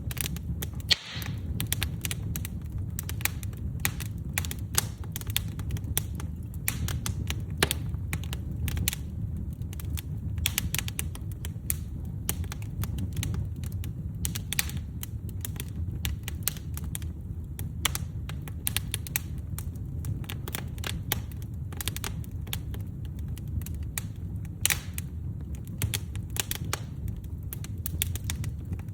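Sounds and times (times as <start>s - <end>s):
fire hissing and rumbling: 0.0s - 28.9s
logs crackling and popping: 0.0s - 28.9s.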